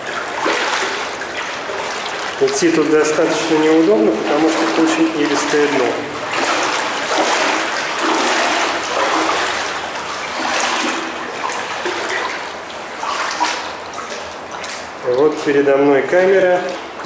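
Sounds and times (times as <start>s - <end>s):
wading through shallow water: 0.0s - 17.0s.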